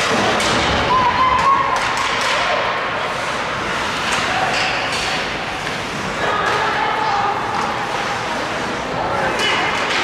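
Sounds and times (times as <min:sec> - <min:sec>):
din of crowd and players: 0:00.0 - 0:10.0.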